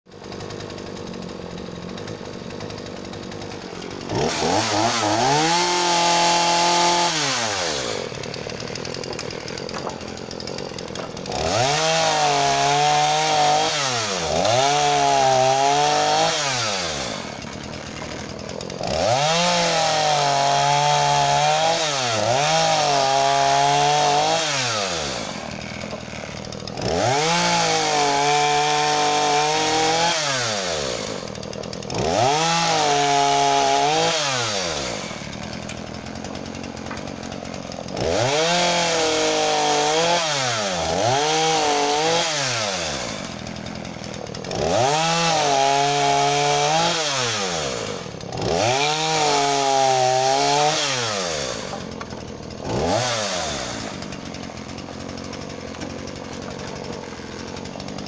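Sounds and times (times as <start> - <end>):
chainsaw idling and revving: 0.1 - 58.0.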